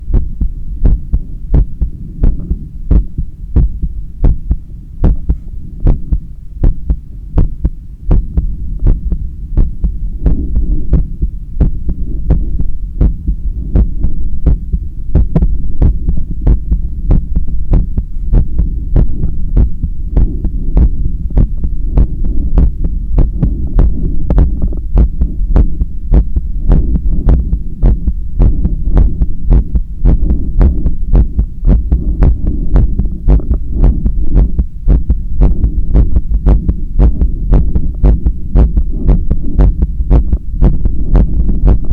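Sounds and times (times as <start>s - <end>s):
heartbeat thumps through stethoscope: 0.0s - 41.9s
steady low rumble: 0.0s - 41.9s.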